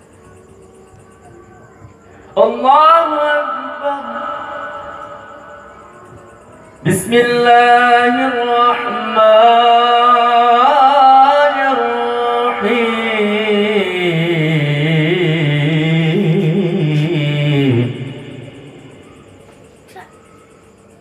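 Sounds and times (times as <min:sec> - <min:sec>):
person chanting through a sound system: 0:00.0 - 0:20.1.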